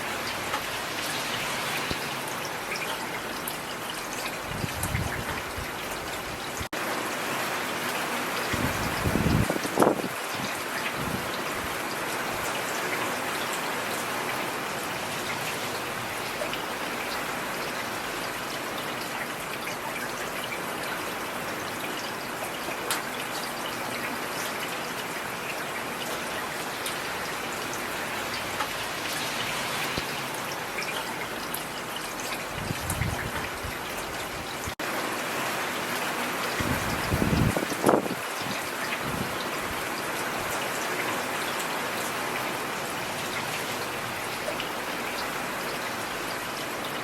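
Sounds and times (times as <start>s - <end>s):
rain falling on a street: 0.0s - 47.0s.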